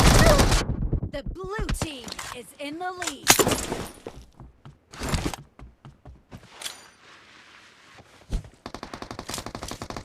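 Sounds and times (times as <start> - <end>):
video game footsteps: 0.6 - 7.2, 7.8 - 9.4.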